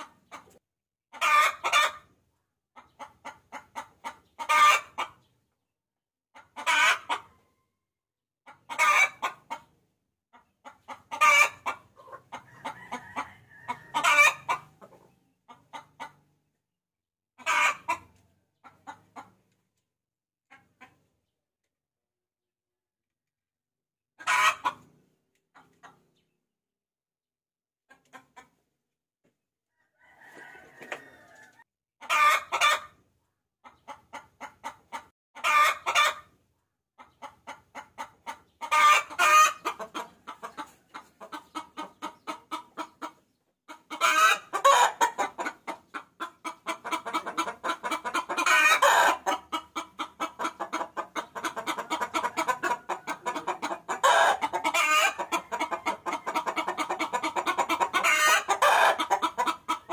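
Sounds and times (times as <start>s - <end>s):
hen clucking and cackling: 0.0s - 5.5s, 6.3s - 7.7s, 8.4s - 16.6s, 17.4s - 19.8s, 20.5s - 21.3s, 24.2s - 26.4s, 27.9s - 28.8s, 29.7s - 59.9s.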